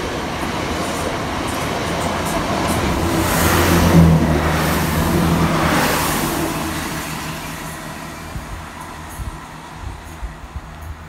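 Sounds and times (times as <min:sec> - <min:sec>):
diesel train passing: 0:00.0 - 0:11.0
wheel and rail noise: 0:00.0 - 0:11.0.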